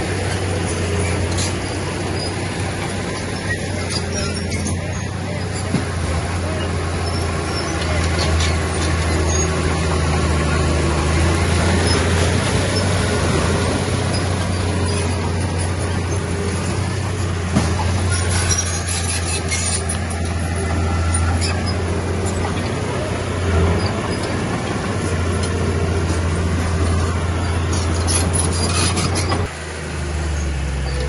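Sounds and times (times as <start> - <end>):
heavy diesel machinery drone: 0.0 - 31.0
metallic squeaks and clicks: 0.2 - 29.5.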